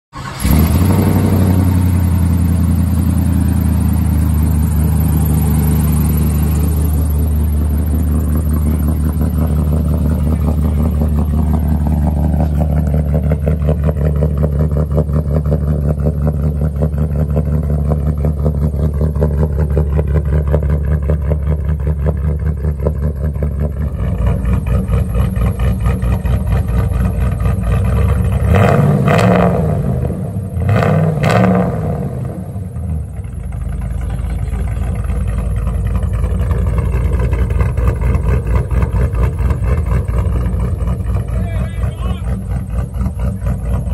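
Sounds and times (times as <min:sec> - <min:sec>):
lumpy idling car engine: 0:00.1 - 0:28.8, 0:32.0 - 0:43.9.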